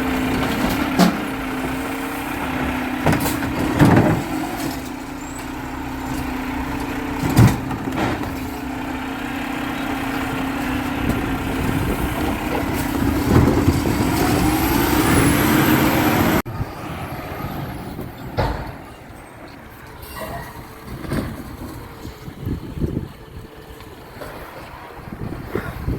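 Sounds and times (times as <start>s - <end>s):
garbage truck engine running: 0.0s - 25.9s.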